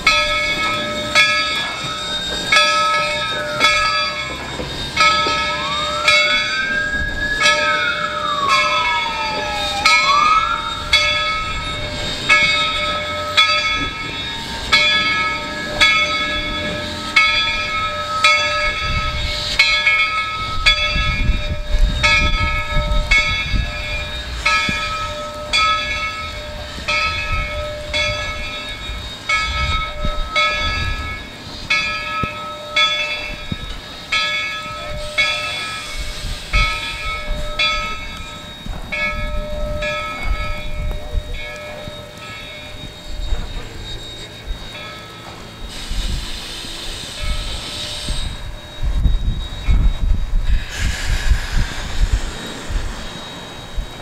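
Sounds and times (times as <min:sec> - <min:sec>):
locomotive bell ringing: 0:00.0 - 0:54.0
train rolling rumble: 0:00.0 - 0:54.0.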